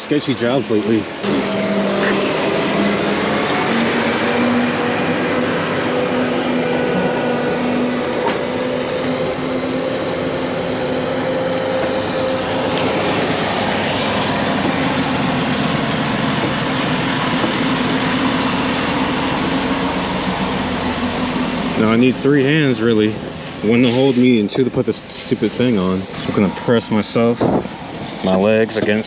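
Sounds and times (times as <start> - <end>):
large machine humming: 0.0 - 29.0.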